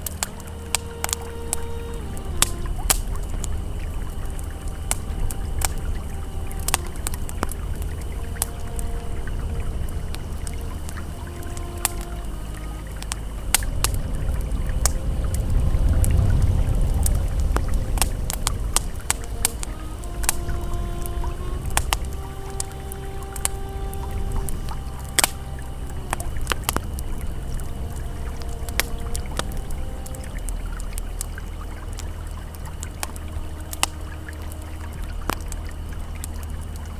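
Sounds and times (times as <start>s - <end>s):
campfire crackling and popping: 0.0s - 36.9s
river flowing: 0.0s - 36.9s.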